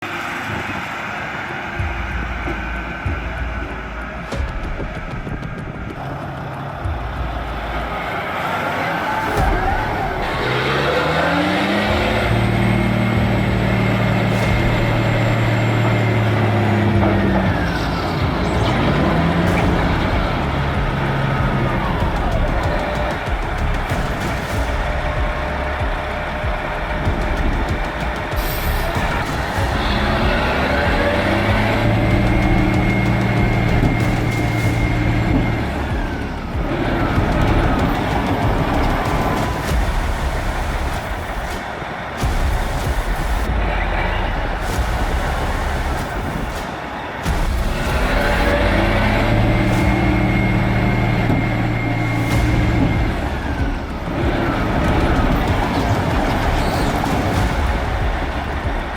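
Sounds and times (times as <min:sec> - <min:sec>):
truck diesel engine revving: 0:05.9 - 0:58.9.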